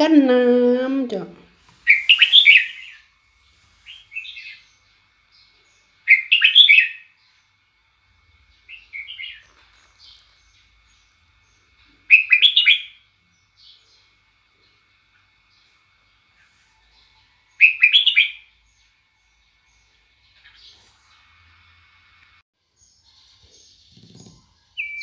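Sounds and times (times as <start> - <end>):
songbird singing: 1.8 - 21.3, 22.8 - 25.0.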